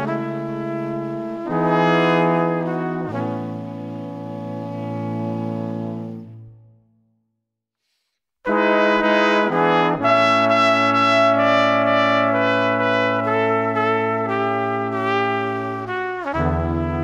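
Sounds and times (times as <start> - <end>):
brass playing slow chords: 0.0 - 6.8, 8.5 - 17.0.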